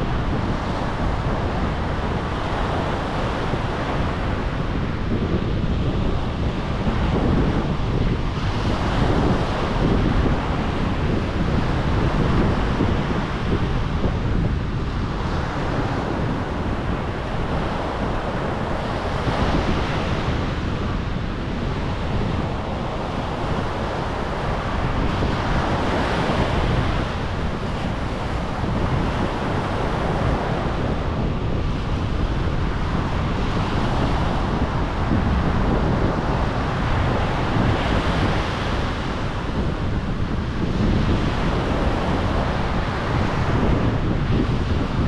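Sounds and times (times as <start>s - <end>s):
waves breaking on shore: 0.0s - 45.0s
wind buffeting microphone: 0.0s - 45.0s.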